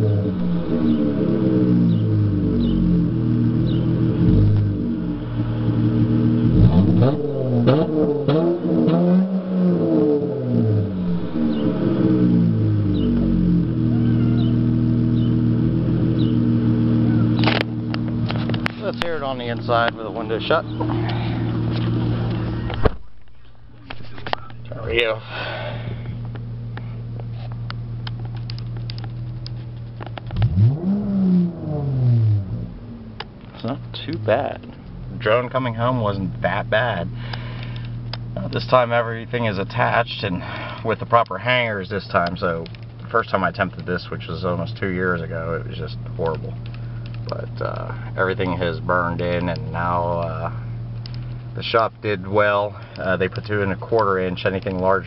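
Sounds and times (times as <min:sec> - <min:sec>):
car exhaust idling and revving: 0:00.0 - 0:55.0.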